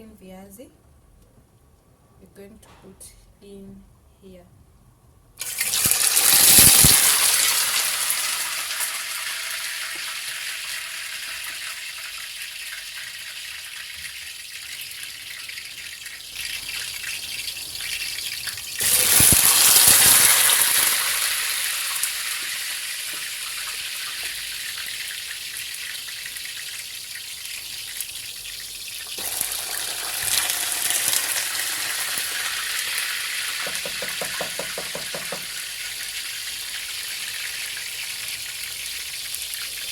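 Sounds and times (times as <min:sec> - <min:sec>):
potatoes sizzling in hot oil: 0:05.4 - 0:39.9.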